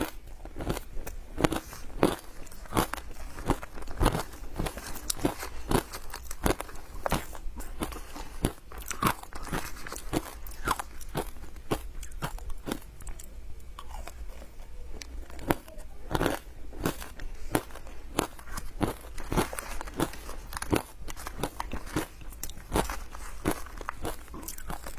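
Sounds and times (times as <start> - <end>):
ice being crunched and chewed: 0.0 - 24.9.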